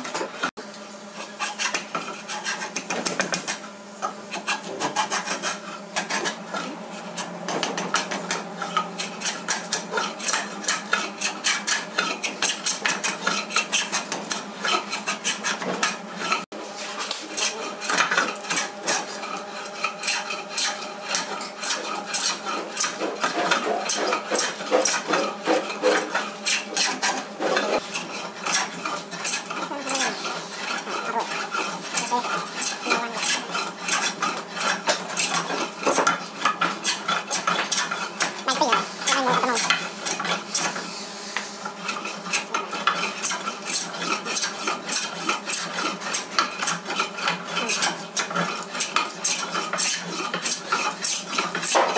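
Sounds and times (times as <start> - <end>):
hand plane scraping wood: 1.2 - 51.9.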